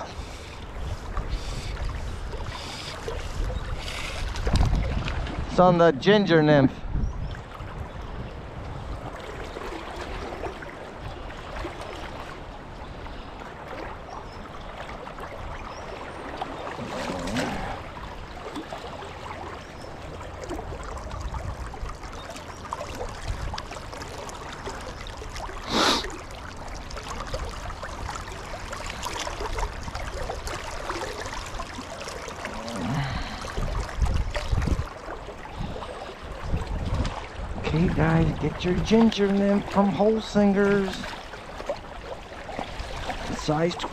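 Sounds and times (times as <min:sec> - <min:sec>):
shallow river flowing and rippling: 0:00.0 - 0:43.9.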